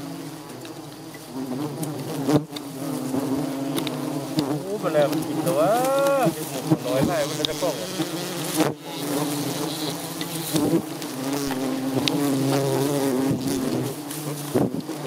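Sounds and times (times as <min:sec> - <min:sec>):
bees buzzing densely: 0:00.0 - 0:15.0.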